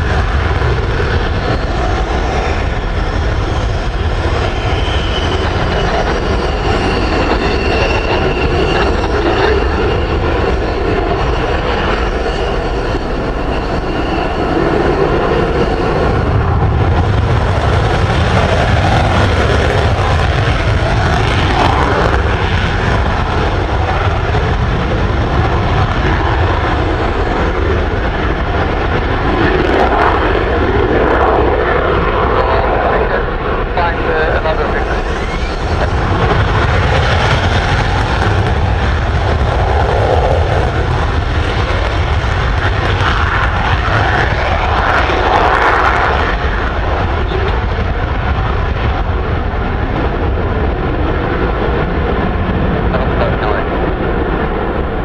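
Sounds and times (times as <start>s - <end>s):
high turbine whine: 0.0s - 55.0s
jet engine roar: 0.0s - 55.0s
low afterburner rumble: 0.0s - 55.0s.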